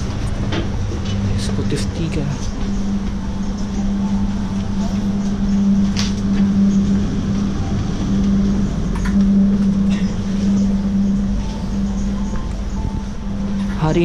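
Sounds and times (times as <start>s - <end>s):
train carriage hum: 0.0s - 14.0s.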